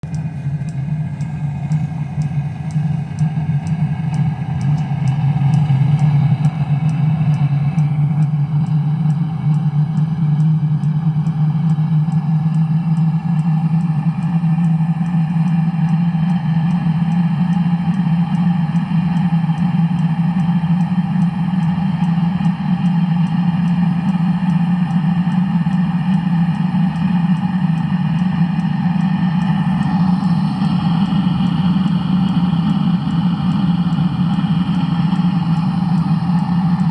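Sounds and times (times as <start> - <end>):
engine droning with light tick: 0.0 - 36.9.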